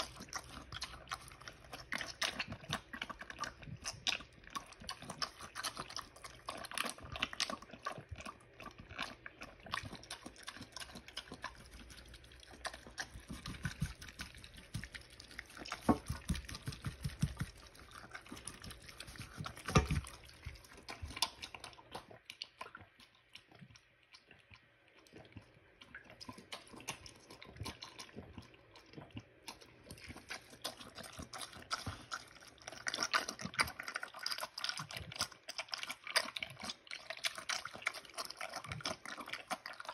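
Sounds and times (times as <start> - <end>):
pig chewing and slurping: 0.0 - 39.9.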